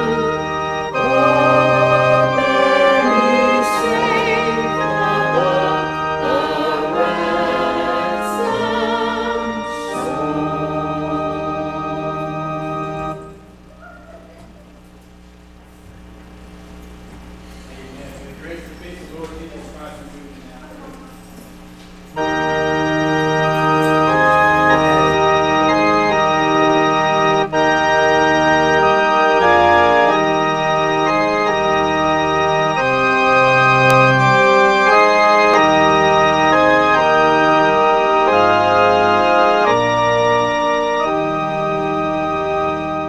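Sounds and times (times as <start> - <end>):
organ playing held chords: 0.0 - 43.0.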